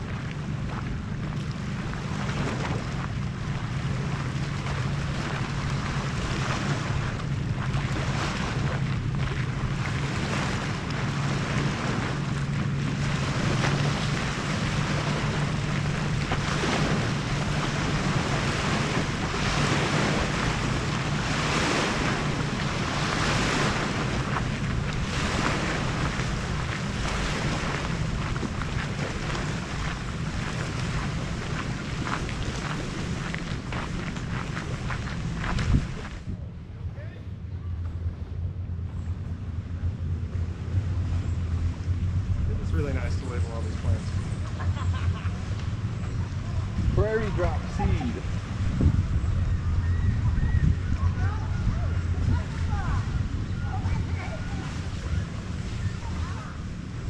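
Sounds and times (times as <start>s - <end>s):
steady low hum: 0.0s - 57.0s
wind buffeting microphone: 0.0s - 57.0s.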